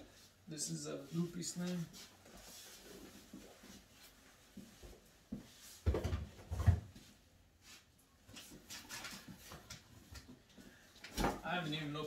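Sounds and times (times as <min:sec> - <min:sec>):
soft knocks and shuffling: 0:00.0 - 0:12.0.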